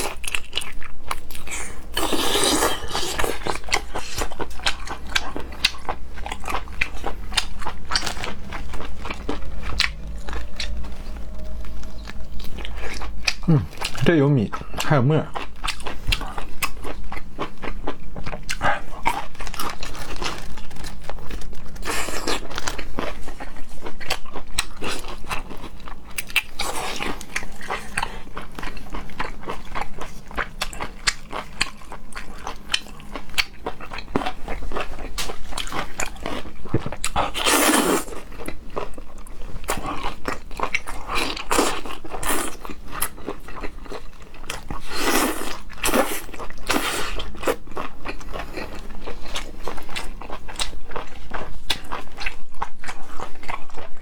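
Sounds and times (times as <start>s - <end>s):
wet chewing and biting: 0.0s - 54.0s.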